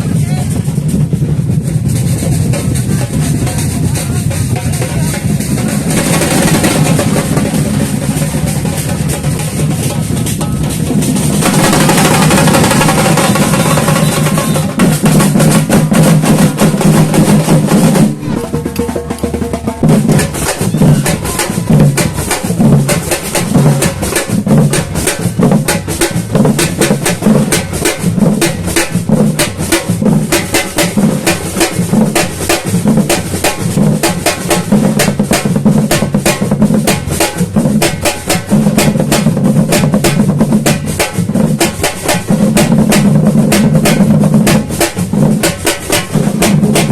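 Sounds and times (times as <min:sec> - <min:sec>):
bass drums pounding: 0:00.0 - 0:46.9
fast snare drum strokes: 0:00.0 - 0:46.9.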